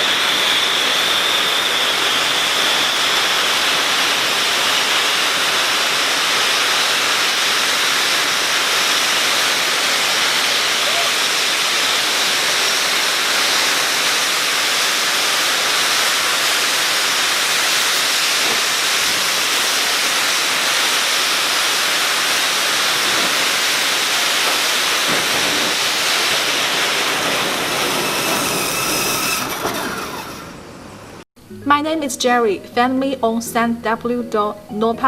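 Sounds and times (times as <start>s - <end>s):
spark fountains hissing: 0.0s - 30.6s.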